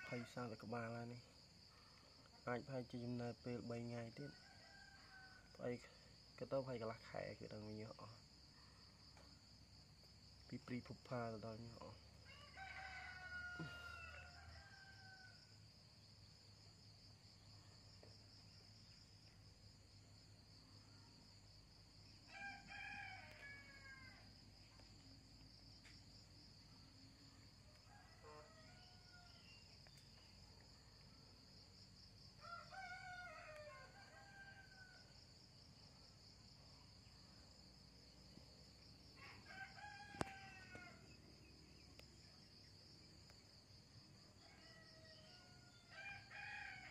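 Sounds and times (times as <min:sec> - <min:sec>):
faint roosters crowing: 0:00.0 - 0:09.8, 0:10.7 - 0:19.0, 0:19.6 - 0:46.9
high-pitched insect trill: 0:00.0 - 0:46.9.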